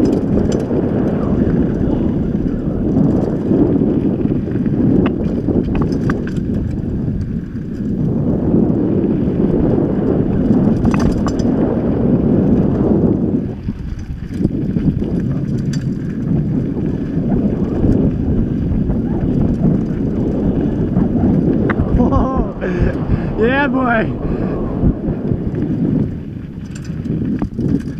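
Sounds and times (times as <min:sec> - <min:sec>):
bike rattling on bumps: 0:00.0 - 0:27.9
bike tyre noise: 0:00.0 - 0:27.9
wind buffeting microphone: 0:00.0 - 0:27.9.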